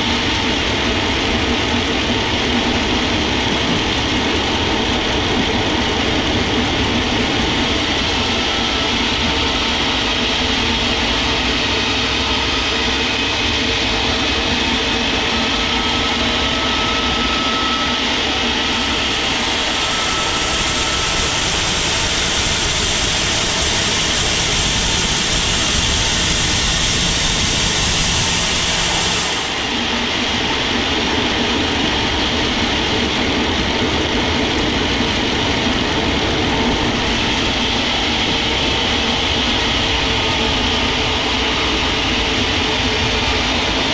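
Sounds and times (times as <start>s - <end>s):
sawmill machinery running: 0.0s - 43.9s.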